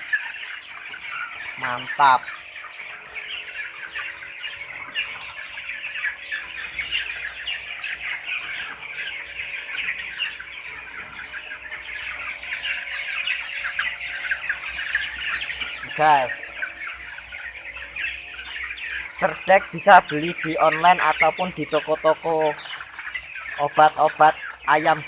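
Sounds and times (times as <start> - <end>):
chickens chirping and clucking: 0.0 - 25.0.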